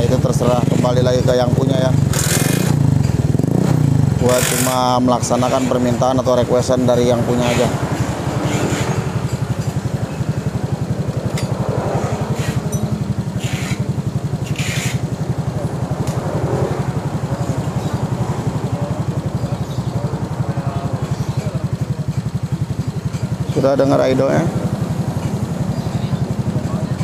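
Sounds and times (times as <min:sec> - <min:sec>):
scooter engine idling: 0:00.0 - 0:27.0.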